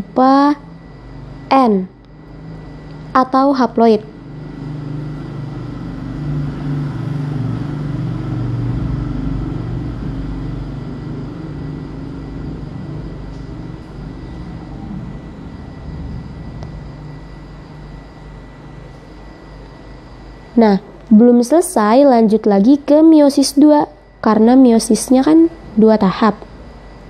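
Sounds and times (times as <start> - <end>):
faint high whine: 0.0 - 27.0
low mechanical rumble: 0.0 - 27.0.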